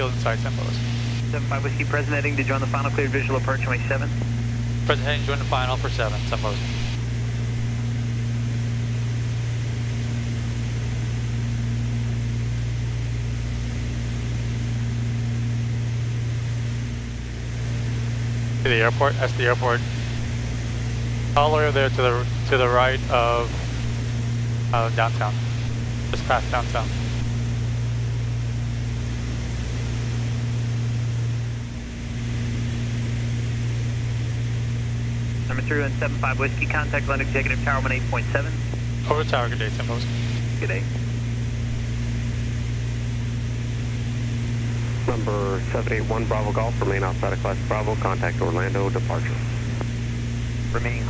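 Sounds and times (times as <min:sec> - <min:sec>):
airplane piston engines droning: 0:00.0 - 0:51.0.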